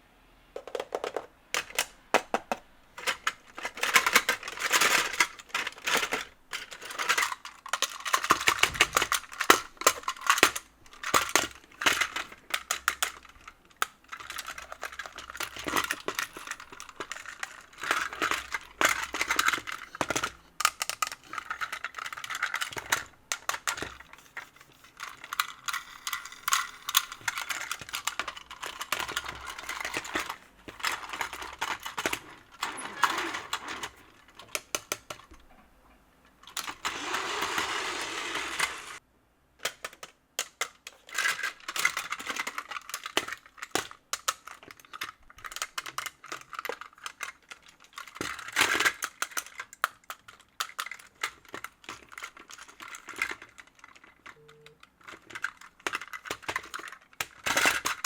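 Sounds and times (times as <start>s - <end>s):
toy train plastic clicks: 0.6s - 35.4s, 36.4s - 39.0s, 39.6s - 58.0s.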